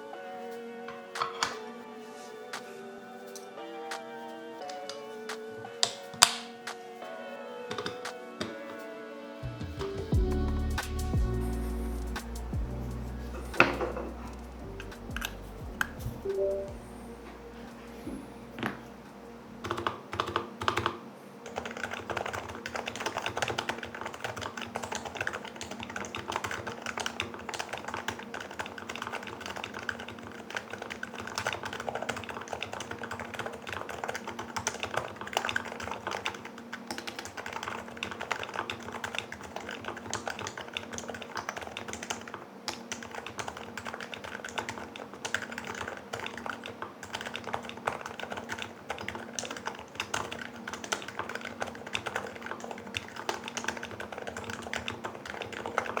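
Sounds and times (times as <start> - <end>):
fast keyboard typing: 4.6 - 6.8, 7.7 - 8.6, 10.1 - 16.9, 19.6 - 56.0.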